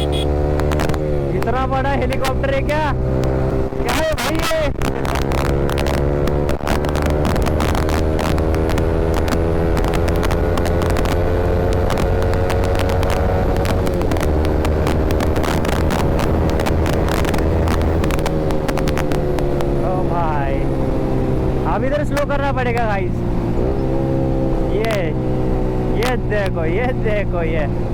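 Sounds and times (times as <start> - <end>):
motorcycle engine cruising: 0.0 - 27.9.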